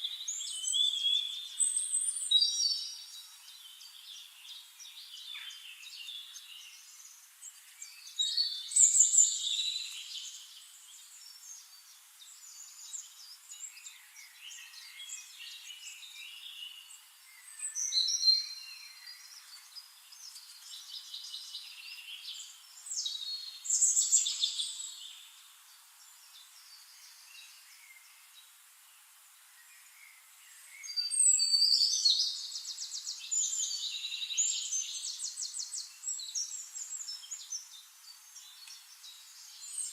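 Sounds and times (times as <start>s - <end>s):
birds singing: 0.0s - 39.9s
faint steady hiss: 0.0s - 39.9s.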